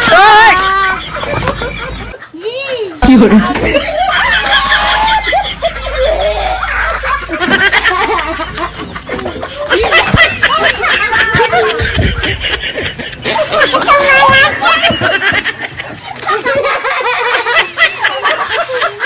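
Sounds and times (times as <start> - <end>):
person laughing and chuckling: 3.0 - 19.0.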